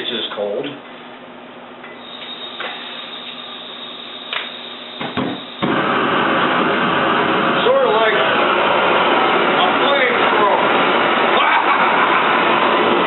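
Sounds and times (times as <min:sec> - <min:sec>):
space heater whooshing: 0:02.4 - 0:13.0.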